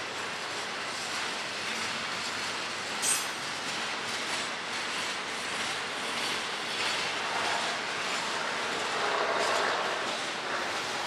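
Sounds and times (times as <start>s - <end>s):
steel wheels rolling on rail: 0.0s - 11.0s.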